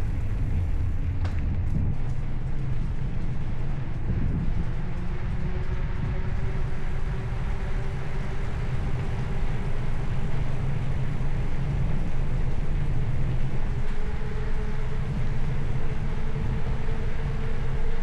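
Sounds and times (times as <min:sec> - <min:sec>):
faint hum from bicycle ride: 0:00.0 - 0:18.0
wind buffeting microphone: 0:00.0 - 0:18.0.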